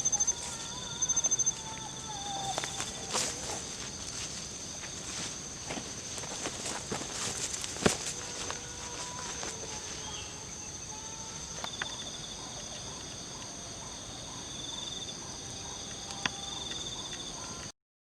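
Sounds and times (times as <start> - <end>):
faint insect chirp: 0.0 - 17.7
insects trilling: 0.0 - 17.7.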